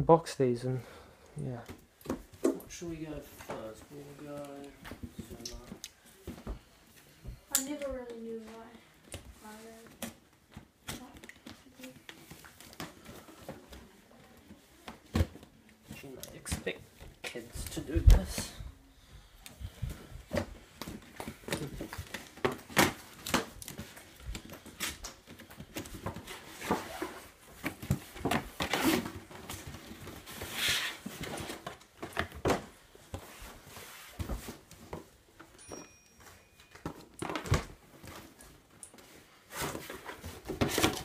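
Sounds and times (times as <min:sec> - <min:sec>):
cardboard and plastic rustling: 0:01.5 - 0:07.0, 0:07.8 - 0:18.7, 0:19.5 - 0:41.0.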